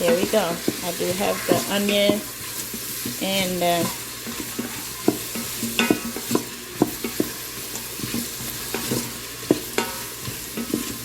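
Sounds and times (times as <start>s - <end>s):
utensil scraping pot: 0.0s - 11.0s
vegetables sizzling in oil: 0.0s - 11.0s.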